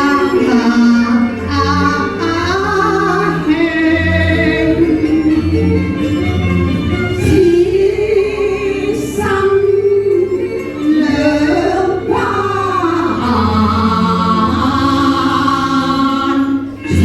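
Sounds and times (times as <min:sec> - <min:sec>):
woman singing opera: 0:00.0 - 0:06.0, 0:07.2 - 0:17.0
instrumental accompaniment: 0:00.0 - 0:17.0.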